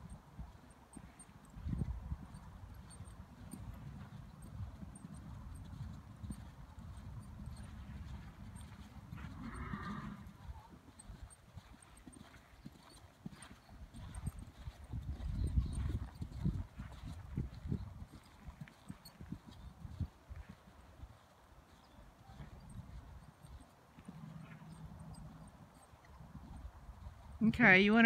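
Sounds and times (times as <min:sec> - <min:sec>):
horse hoofbeats trotting on sand: 0:00.0 - 0:28.0.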